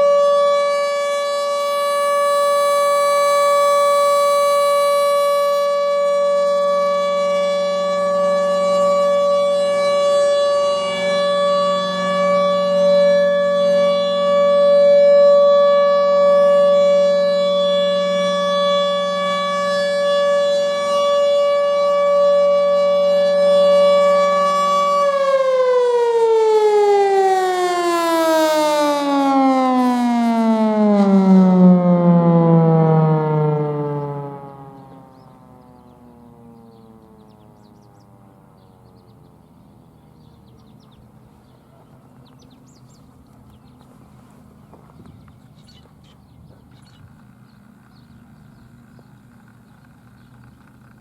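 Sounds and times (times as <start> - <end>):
warning siren: 0.0 - 51.0.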